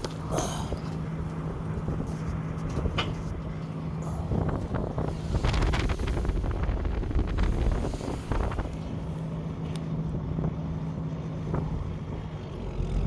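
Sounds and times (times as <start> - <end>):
vehicle engine running: 0.0 - 13.0
wind buffeting microphone: 0.6 - 10.6, 11.4 - 13.0.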